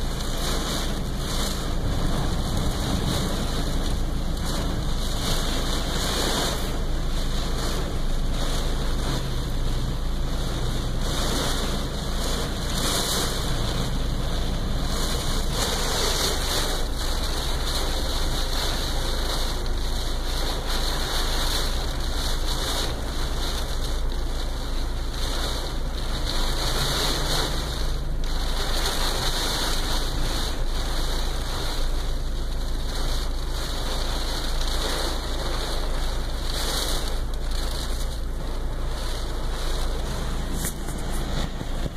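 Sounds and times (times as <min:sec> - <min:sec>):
heavy rain on car roof: 0:00.0 - 0:41.9.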